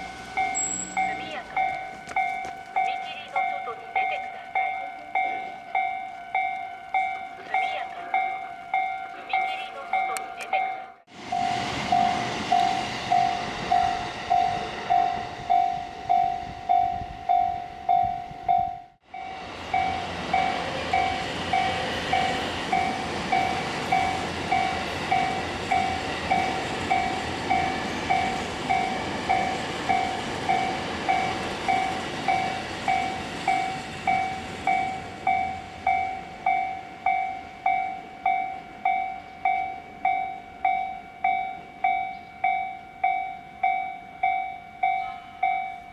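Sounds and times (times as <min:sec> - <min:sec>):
level-crossing warning bell: 0:00.0 - 0:45.9
train rumbling past: 0:00.0 - 0:45.9.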